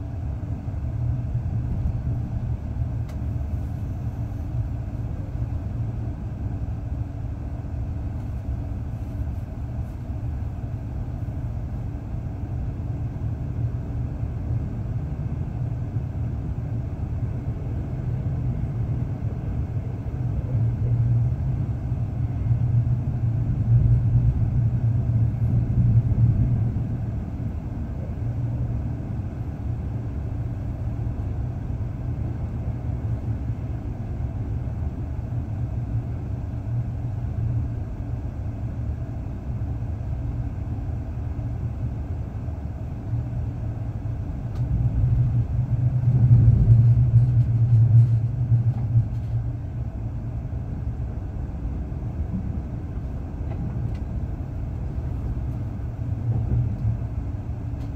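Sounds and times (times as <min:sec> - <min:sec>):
train rumble inside carriage: 0:00.0 - 0:57.9.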